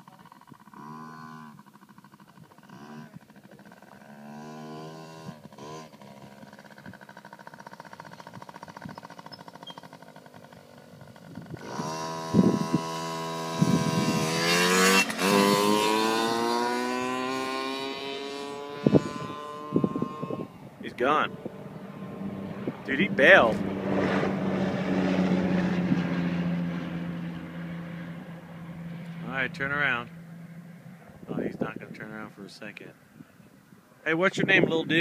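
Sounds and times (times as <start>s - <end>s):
dirt bike engine revving: 0.0s - 28.3s.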